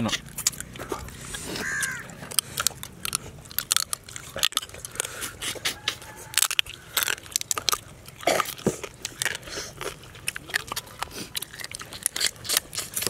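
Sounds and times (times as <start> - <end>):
crab shells cracking: 0.0 - 13.0.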